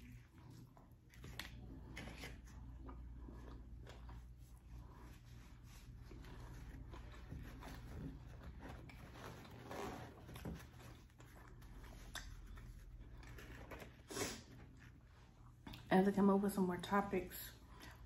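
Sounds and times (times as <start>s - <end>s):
quiet chewing: 0.0s - 15.9s.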